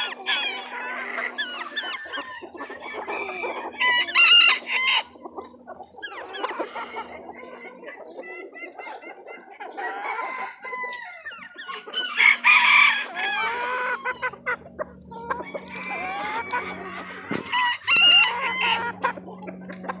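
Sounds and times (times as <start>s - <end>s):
hens clucking: 0.0s - 20.0s
roosters crowing: 0.0s - 20.0s.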